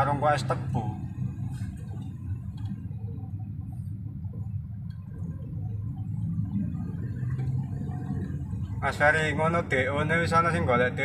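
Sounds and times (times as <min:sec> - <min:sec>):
diesel truck engine rumble: 0:00.0 - 0:11.0
road noise: 0:00.0 - 0:11.0.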